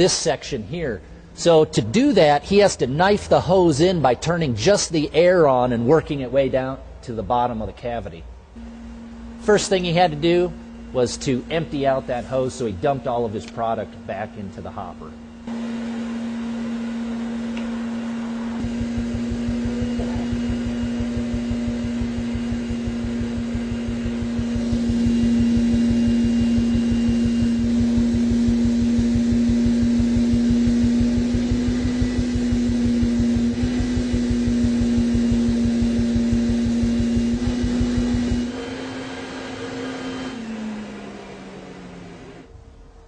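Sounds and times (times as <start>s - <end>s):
insulation blowing machine humming: 0.0s - 43.0s.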